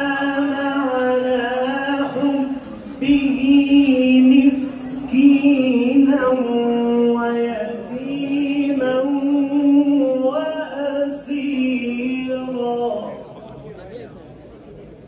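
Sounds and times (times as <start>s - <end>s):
man chanting: 0.0s - 13.4s.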